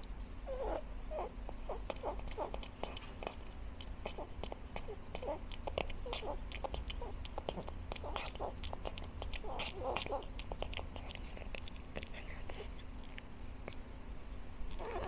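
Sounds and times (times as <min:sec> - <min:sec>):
cat chewing: 0:00.0 - 0:15.0.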